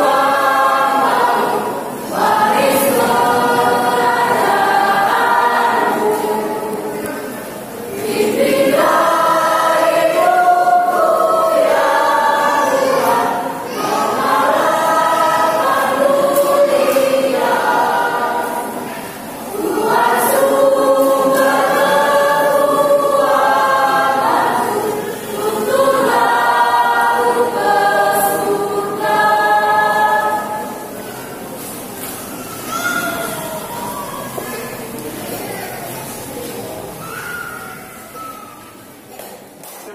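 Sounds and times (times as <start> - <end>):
mixed choir singing a hymn: 0.0 - 32.2.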